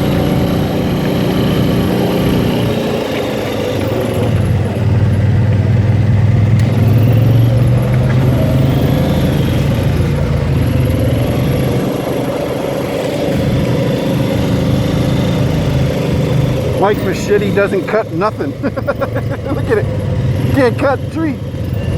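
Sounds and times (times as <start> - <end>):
atv engine running: 0.0 - 21.9.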